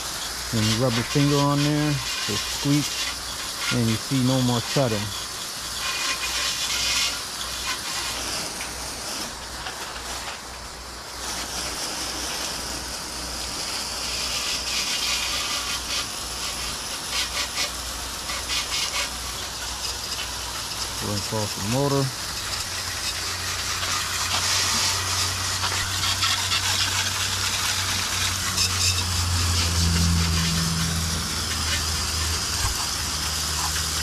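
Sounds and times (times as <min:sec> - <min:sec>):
water spray from hose hissing: 0:00.0 - 0:34.0.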